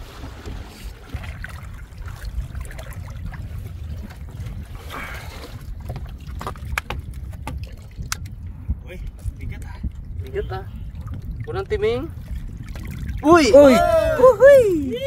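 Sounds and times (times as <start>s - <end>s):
seawater lapping and sloshing: 0.0s - 8.4s, 9.8s - 15.0s
wind rumble on microphone: 0.0s - 15.0s.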